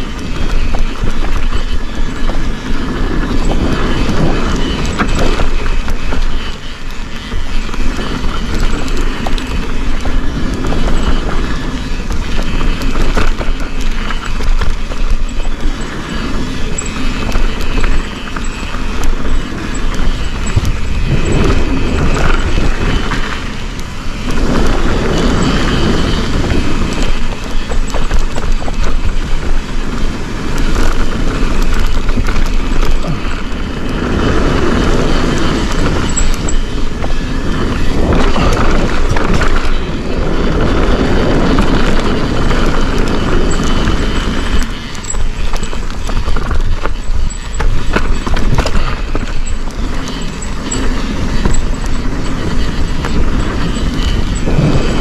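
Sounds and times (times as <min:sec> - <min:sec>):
bike and chain rattling: 0:00.0 - 0:55.0
bike tyre roar on dirt: 0:00.0 - 0:55.0
wind rushing over microphone: 0:00.0 - 0:55.0.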